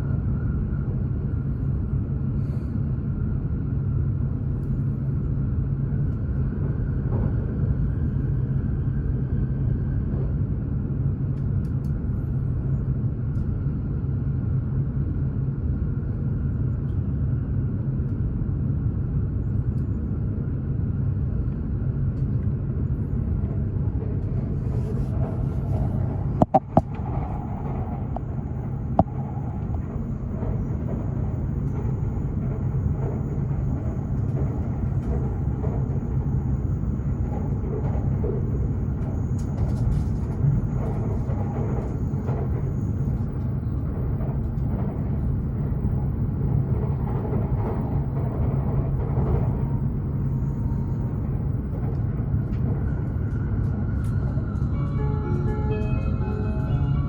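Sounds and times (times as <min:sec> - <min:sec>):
train rumbling at speed: 0:00.0 - 0:57.0.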